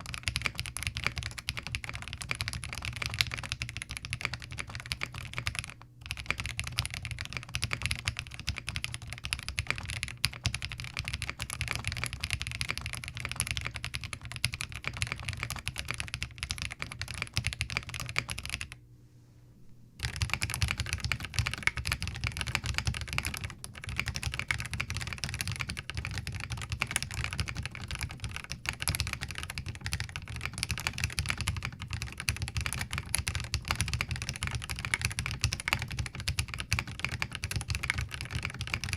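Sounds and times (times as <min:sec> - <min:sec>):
mechanical keyboard typing: 0:00.0 - 0:18.8, 0:20.0 - 0:38.9.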